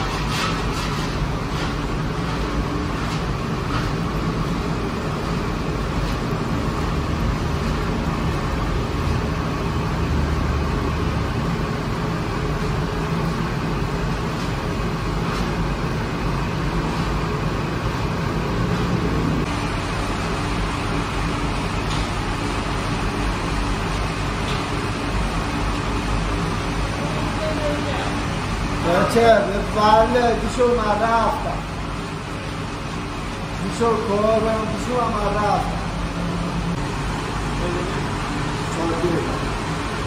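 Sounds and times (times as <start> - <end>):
machine drone with low hum: 0.0 - 40.0.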